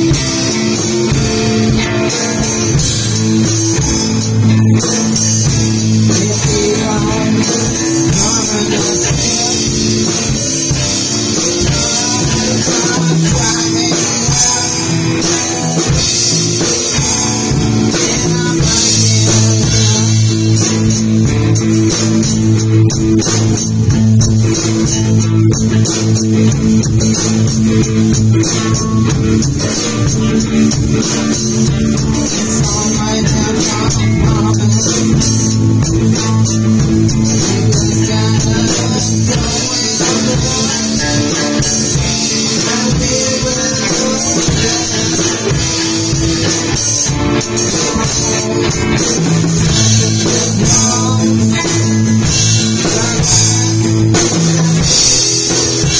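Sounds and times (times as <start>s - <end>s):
drum kit steady beat: 0.0s - 55.9s
electric guitars jamming: 0.0s - 55.9s.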